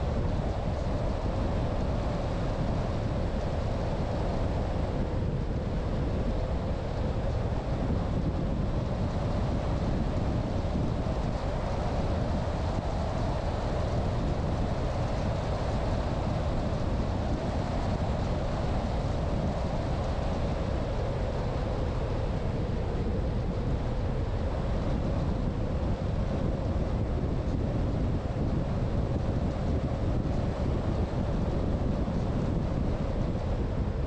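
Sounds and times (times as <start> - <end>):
road and wind rumble: 0.0 - 34.0.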